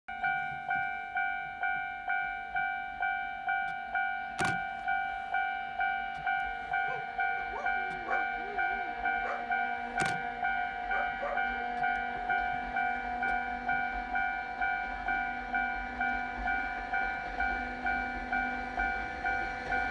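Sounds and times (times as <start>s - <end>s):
level-crossing alarm dinging: 0.1s - 19.9s.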